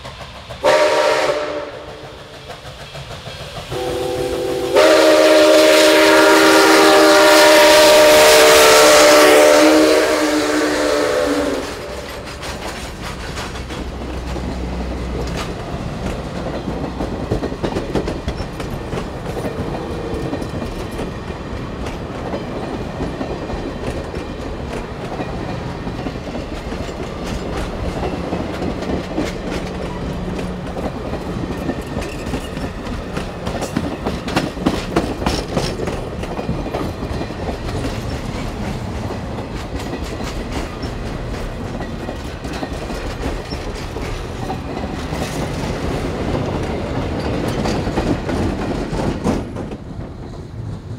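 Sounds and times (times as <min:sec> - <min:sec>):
clickety-clack over rail joints: 0:00.0 - 0:50.9
train wheels rumbling on rail: 0:00.0 - 0:50.9.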